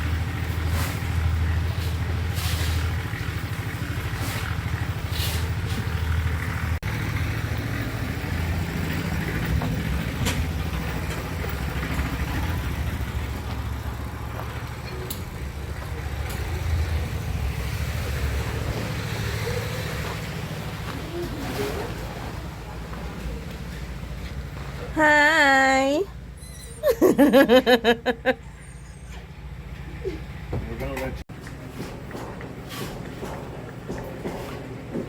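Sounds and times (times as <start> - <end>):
vehicle engine droning: 0.0 - 35.0.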